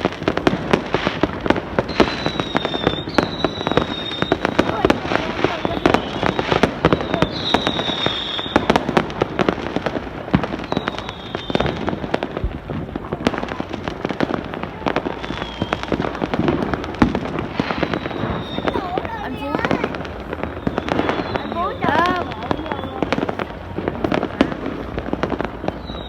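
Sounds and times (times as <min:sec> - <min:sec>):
fireworks bangs and crackles: 0:00.0 - 0:26.0
fireworks whistling: 0:00.0 - 0:26.0.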